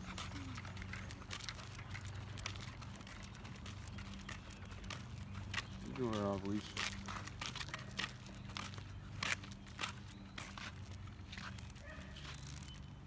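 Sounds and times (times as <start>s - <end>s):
footsteps on asphalt: 0.0s - 13.0s
dog claws on pavement: 0.1s - 12.8s.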